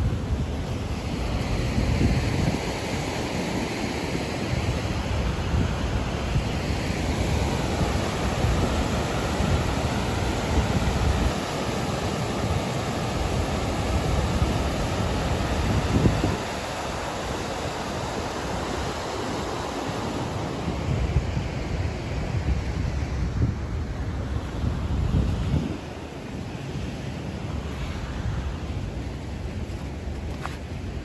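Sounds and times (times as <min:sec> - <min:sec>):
river rushing over dam: 0:00.0 - 0:31.0.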